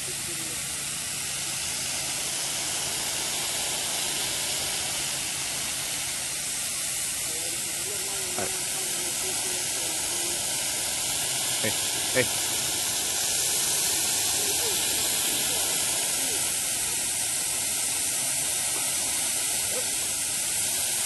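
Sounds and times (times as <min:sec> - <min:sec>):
hose spray nozzle hissing: 0:00.3 - 0:21.0.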